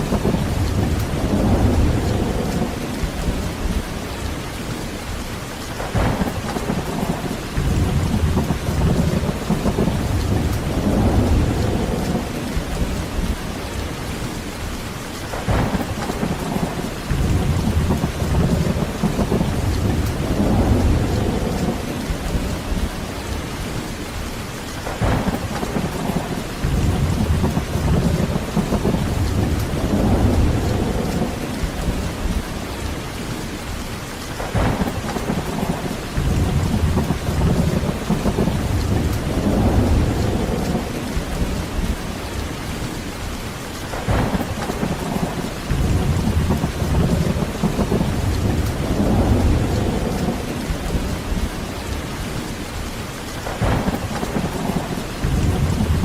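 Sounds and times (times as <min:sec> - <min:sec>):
rolling thunder: 0:00.0 - 0:04.8, 0:05.7 - 0:14.2, 0:15.3 - 0:24.2, 0:24.8 - 0:33.5, 0:34.3 - 0:56.0
heavy rain: 0:00.0 - 0:56.0.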